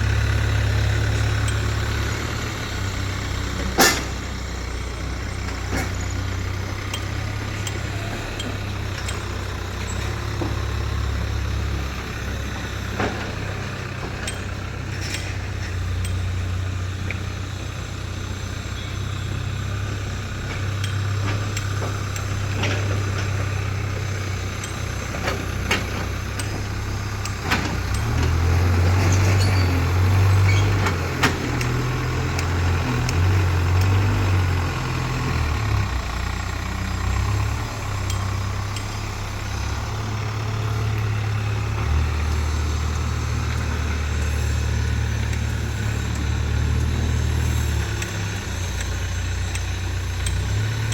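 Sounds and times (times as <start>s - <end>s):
heavy diesel engine digging: 0.0s - 50.9s.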